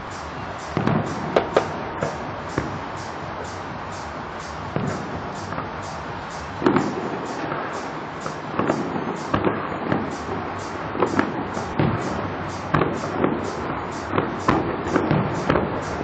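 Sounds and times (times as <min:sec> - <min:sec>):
background noise: 0:00.0 - 0:16.0
distant fireworks bangs: 0:00.0 - 0:16.0.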